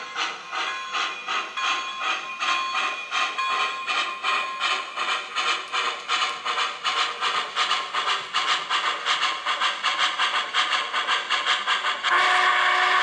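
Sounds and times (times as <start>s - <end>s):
model locomotive steam chuffs: 0.0s - 13.0s.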